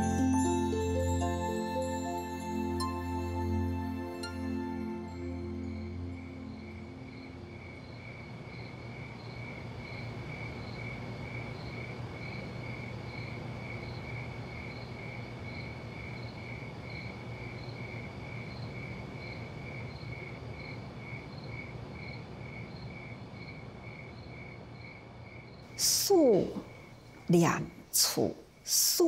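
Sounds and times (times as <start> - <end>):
insect chirping: 0.1 - 29.0.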